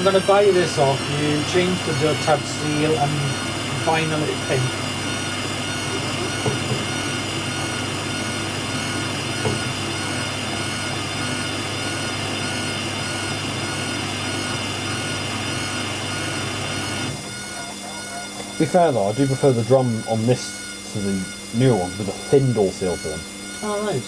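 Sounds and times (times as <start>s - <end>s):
washer-dryer drum spinning: 0.0s - 24.0s.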